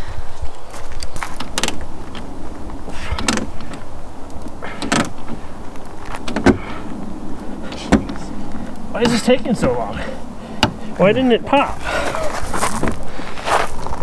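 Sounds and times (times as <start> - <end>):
car door hardware clicks and creaks: 1.0 - 13.1.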